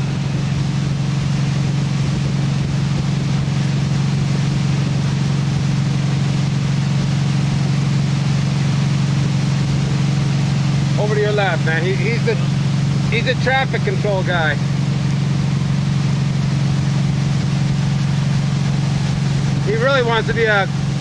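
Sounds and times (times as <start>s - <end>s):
boat engine humming: 0.0s - 21.0s
rushing wind: 0.0s - 21.0s
water rushing: 0.0s - 21.0s.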